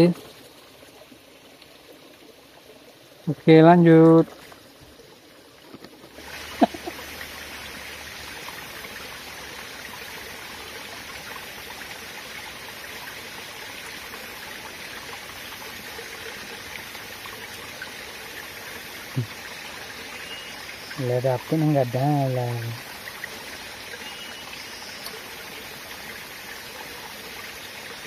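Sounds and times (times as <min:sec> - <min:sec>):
forest stream trickling: 0:00.0 - 0:28.0.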